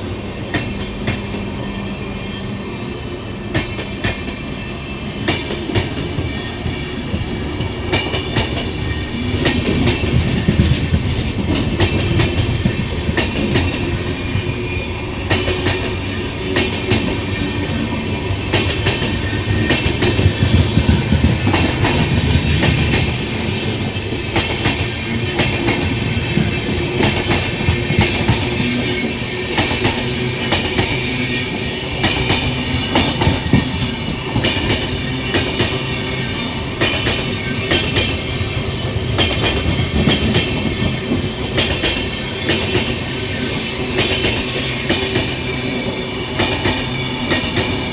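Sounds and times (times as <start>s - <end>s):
train rumbling on track: 0.0s - 47.9s.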